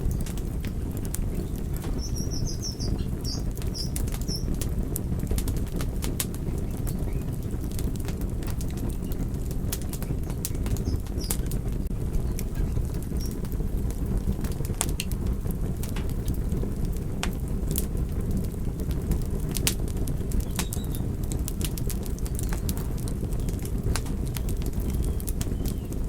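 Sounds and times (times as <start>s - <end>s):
low rumble of flames: 0.0s - 26.0s
wood fire pops and snaps: 0.0s - 26.0s.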